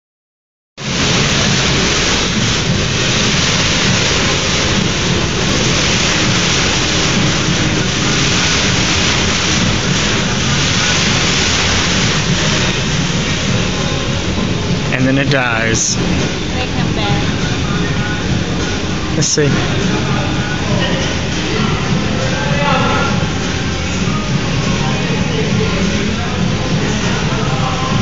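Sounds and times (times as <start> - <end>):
fountain water splashing: 0.8 - 28.0.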